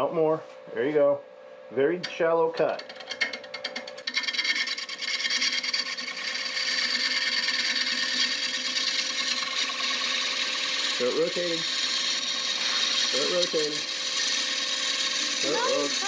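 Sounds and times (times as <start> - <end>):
bowl gouge scraping wood: 2.0 - 16.0
lathe motor humming: 2.0 - 16.0.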